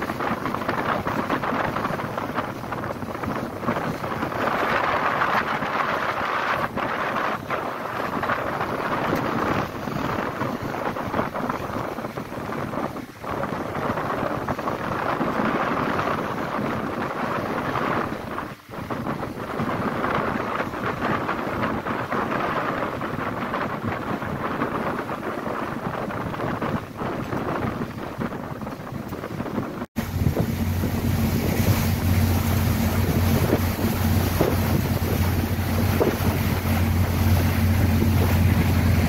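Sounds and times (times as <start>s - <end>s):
water rushing: 0.0s - 39.0s
wind buffeting microphone: 0.0s - 39.0s.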